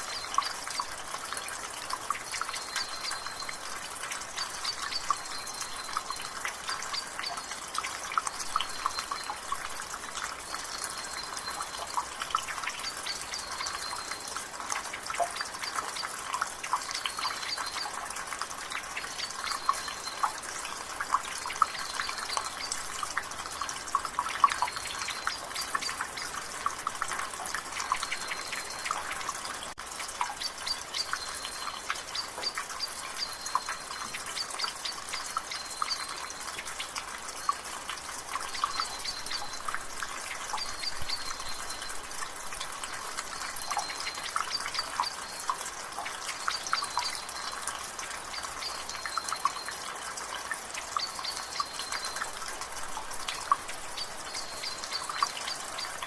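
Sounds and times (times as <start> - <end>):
light rain hiss: 0.0 - 56.0
water dripping from gutter: 0.0 - 56.0.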